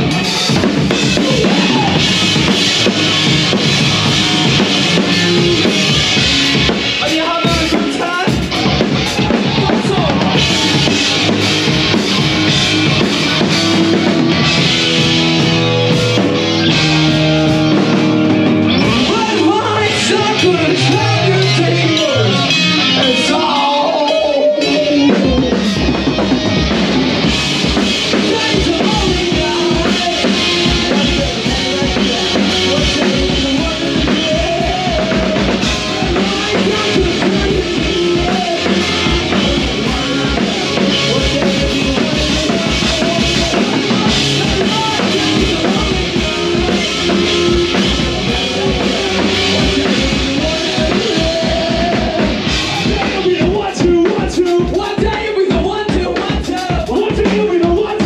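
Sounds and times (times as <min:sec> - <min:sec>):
bass guitar: 0:00.0 - 0:58.0
drum kit pounding: 0:00.0 - 0:58.0
electric guitar: 0:00.0 - 0:58.0.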